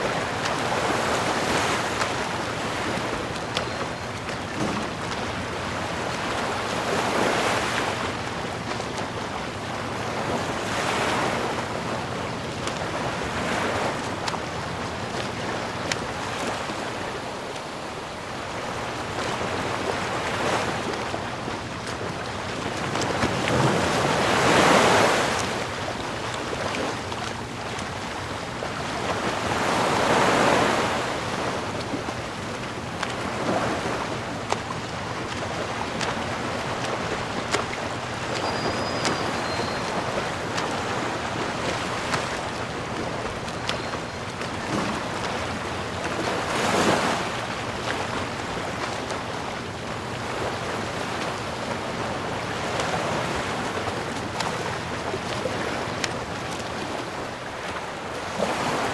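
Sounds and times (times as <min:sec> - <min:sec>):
sea waves washing ashore: 0:00.0 - 0:58.9.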